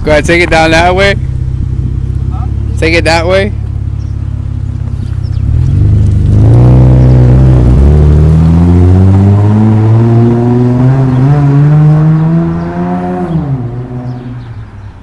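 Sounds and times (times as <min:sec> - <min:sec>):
car engine accelerating with loud exhaust: 0:00.3 - 0:14.7.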